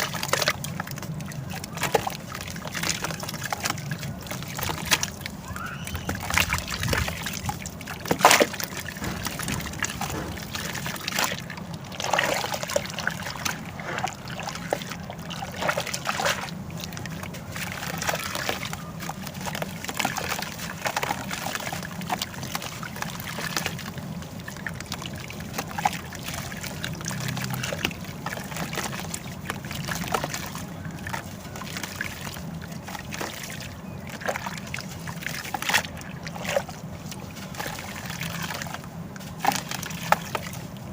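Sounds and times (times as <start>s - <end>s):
water sloshing and trickling: 0.0s - 40.9s.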